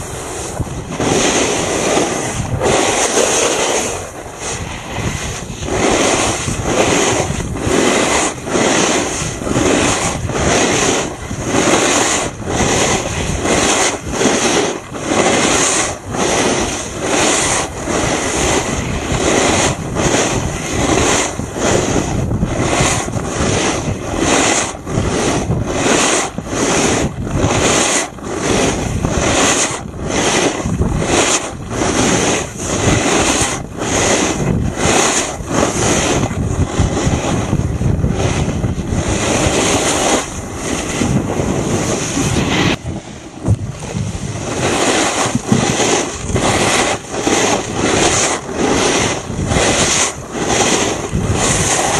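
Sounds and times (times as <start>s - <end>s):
edges scraping over icy snow: 0.0s - 51.9s
wind rushing over microphone: 0.0s - 51.9s.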